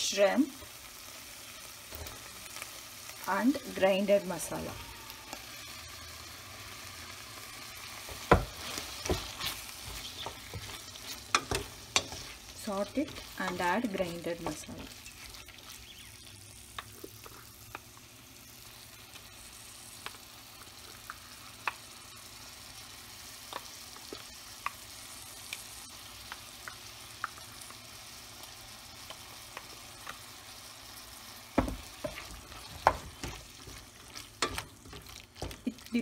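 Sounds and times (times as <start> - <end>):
food sizzling in oil: 0.0 - 36.0.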